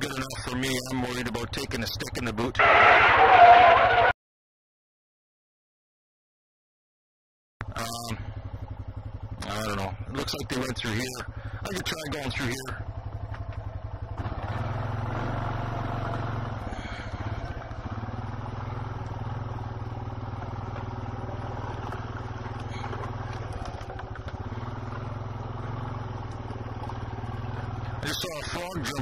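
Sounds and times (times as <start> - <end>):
quad bike engine running: 0.0 - 4.1, 7.6 - 29.0.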